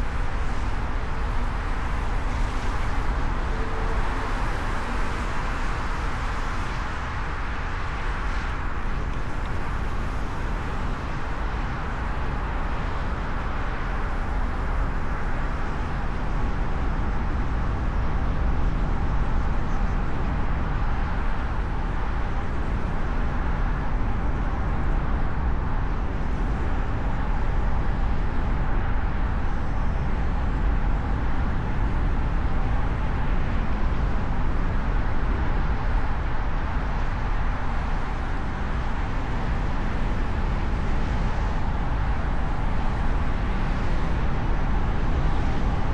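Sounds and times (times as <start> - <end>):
car tyres engine and wind rumble: 0.0 - 45.9.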